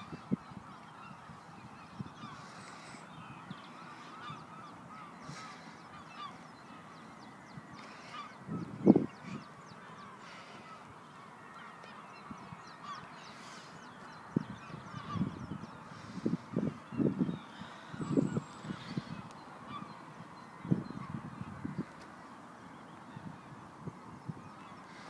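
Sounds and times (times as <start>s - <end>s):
waterbirds calling: 0.0s - 25.0s.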